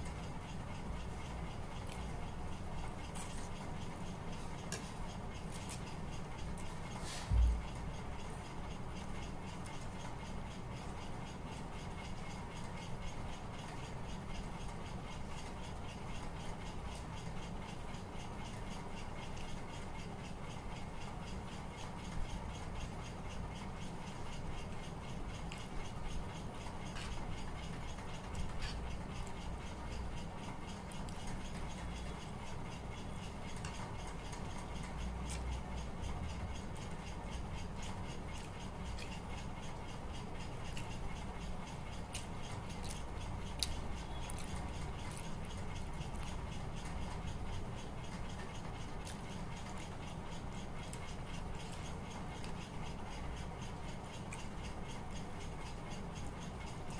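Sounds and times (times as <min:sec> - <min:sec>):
room noise hum and hiss: 0:00.0 - 0:56.9.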